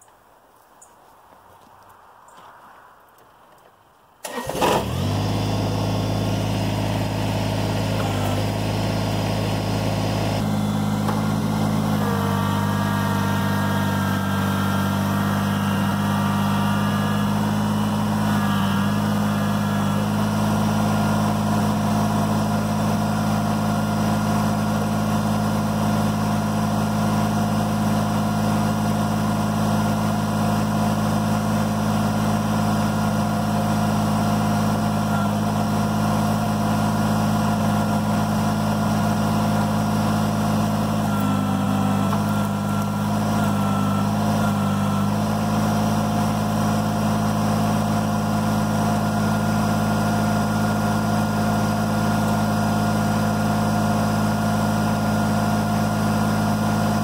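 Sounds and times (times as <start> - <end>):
tractor diesel engine running: 4.2 - 57.0.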